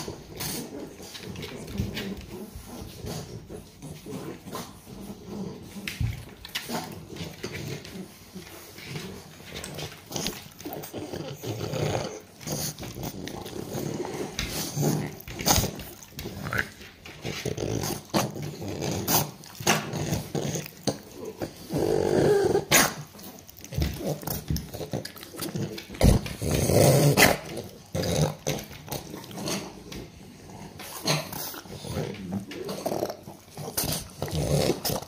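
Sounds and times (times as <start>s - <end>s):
dogs growling: 0.0s - 35.0s.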